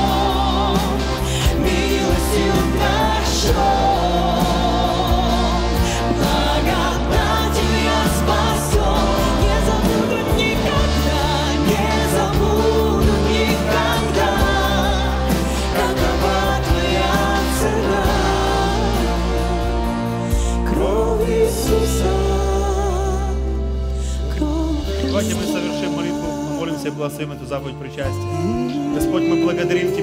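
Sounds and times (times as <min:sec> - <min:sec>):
people singing into microphones: 0:00.0 - 0:27.3, 0:28.3 - 0:30.0
worship band playing: 0:00.0 - 0:30.0.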